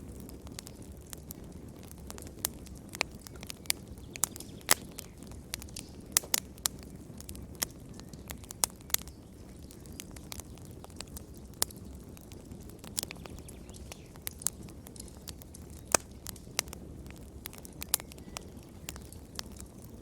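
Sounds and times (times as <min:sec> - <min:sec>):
fire pops and snaps: 0:00.0 - 0:20.0
wood fire crackling: 0:00.0 - 0:20.0.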